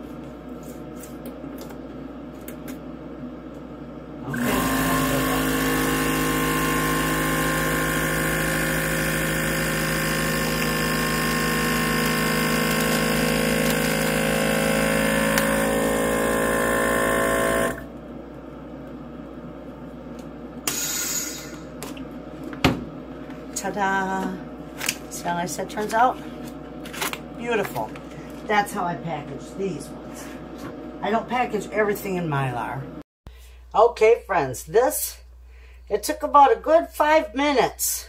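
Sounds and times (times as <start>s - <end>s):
vacuum sealer pump running: 0.0s - 32.2s.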